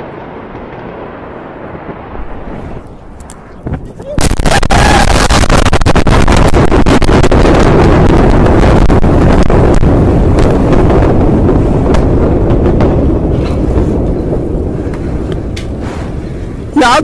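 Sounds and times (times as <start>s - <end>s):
explosion blast rumble: 0.0s - 17.0s.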